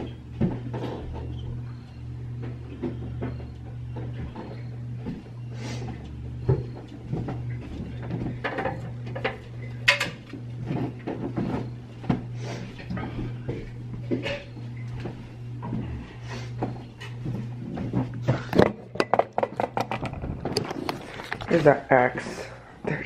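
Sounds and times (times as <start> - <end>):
knocks and clatter of objects: 0.0 - 5.3, 5.9 - 21.7
steady low hum: 0.0 - 23.0.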